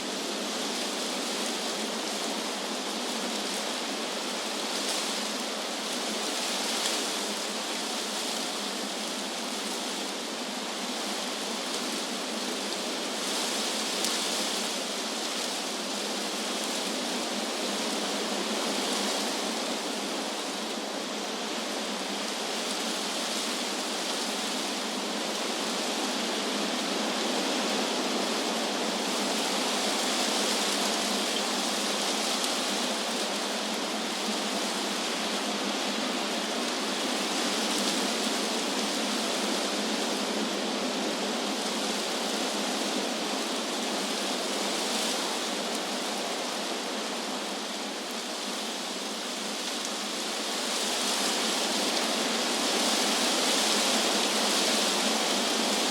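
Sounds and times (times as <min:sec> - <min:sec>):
wind blowing through trees: 0:00.0 - 0:55.9.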